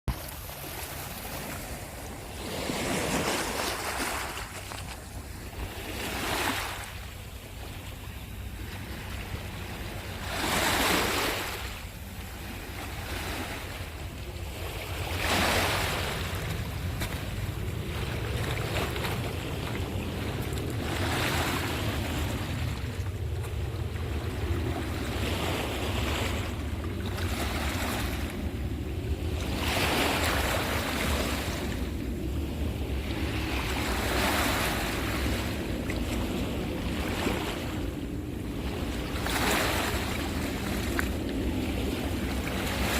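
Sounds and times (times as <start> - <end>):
sea waves breaking: 0.1 - 42.9
wind rumble on microphone: 0.1 - 42.9.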